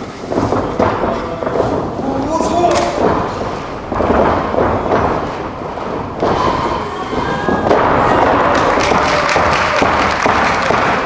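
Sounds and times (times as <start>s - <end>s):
bodies hitting wrestling ring: 0.0s - 11.0s.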